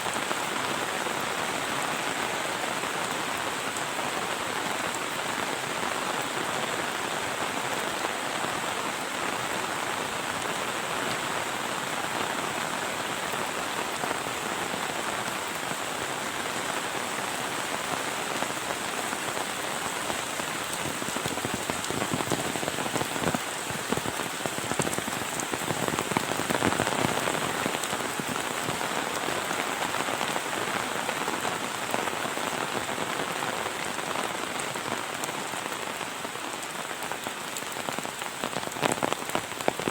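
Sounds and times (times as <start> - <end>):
heavy rain falling: 0.0 - 39.9
splashing raindrops: 0.1 - 39.9.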